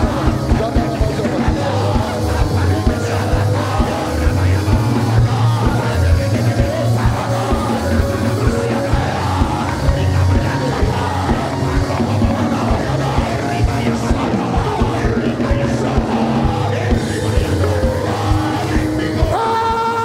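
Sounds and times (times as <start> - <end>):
crowd praying aloud and shouting: 0.0 - 20.0
live band music: 0.0 - 20.0.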